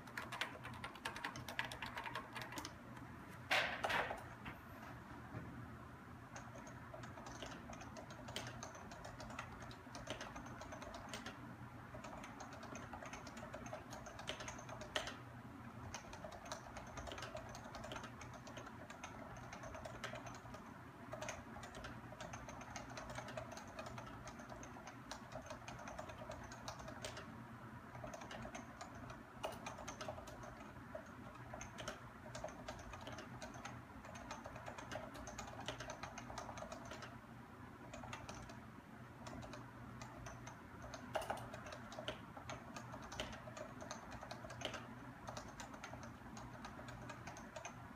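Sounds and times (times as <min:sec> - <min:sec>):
fast typing on keyboard: 0:00.0 - 0:02.9, 0:06.3 - 0:15.2, 0:15.8 - 0:27.3, 0:27.9 - 0:37.2, 0:37.8 - 0:47.9.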